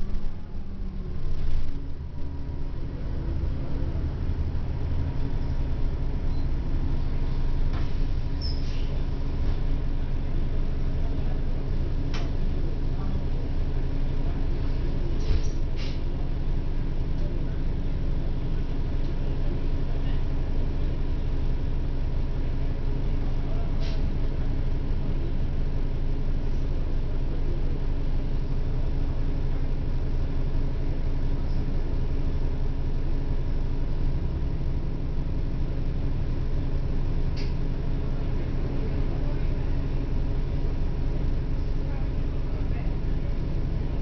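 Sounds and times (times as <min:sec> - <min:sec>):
bus engine drone: 0:00.0 - 0:44.0.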